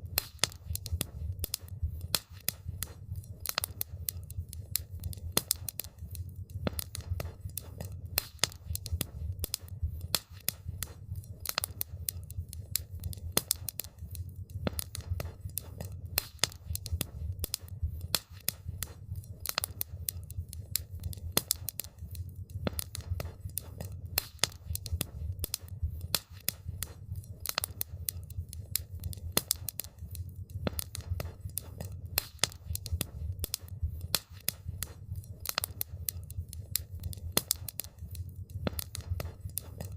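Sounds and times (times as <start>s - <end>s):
campfire pops and snaps: 0.0s - 39.9s
low rumble of fire: 0.0s - 39.9s.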